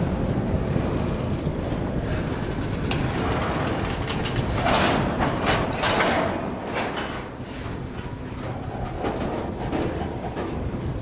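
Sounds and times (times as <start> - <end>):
freight cars rumbling: 0.0 - 11.0
wheels clacking over rails: 0.0 - 11.0.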